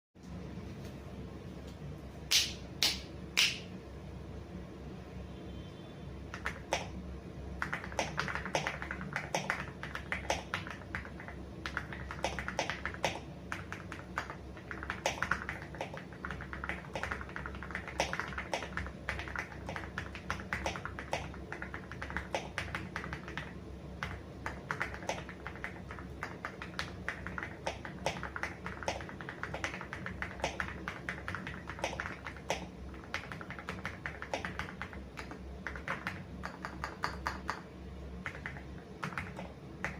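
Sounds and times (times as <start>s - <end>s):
typing on mechanical keyboard: 6.3s - 7.0s, 7.6s - 37.6s, 38.2s - 39.9s.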